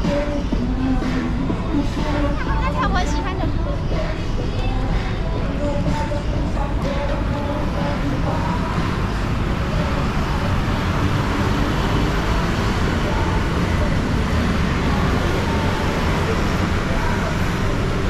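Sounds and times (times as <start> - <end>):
faint voices: 0.0 - 18.0
road traffic rumble: 0.0 - 18.0.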